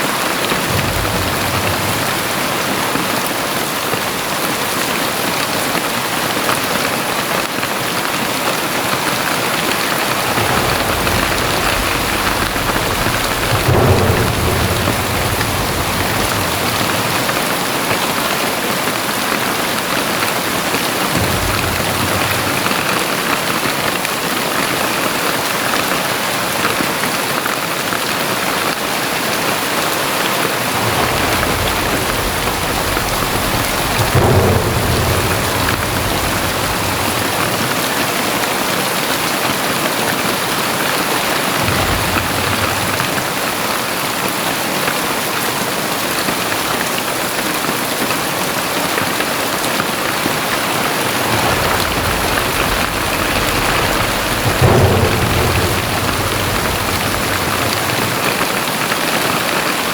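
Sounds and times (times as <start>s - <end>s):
low rolls of thunder: 0.0s - 5.7s, 6.4s - 59.9s
heavy rain pouring: 0.0s - 59.9s.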